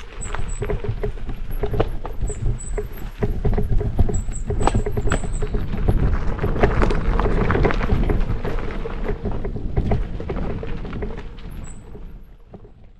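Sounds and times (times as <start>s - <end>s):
bike rattles and knocks: 0.0s - 12.9s
bike tyres crunching over gravel: 0.0s - 12.9s.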